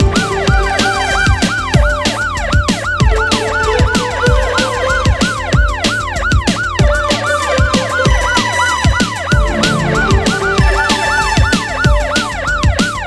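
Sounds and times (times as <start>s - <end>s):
electronic music with drum beat: 0.0s - 13.0s
police siren yelping: 0.0s - 13.0s.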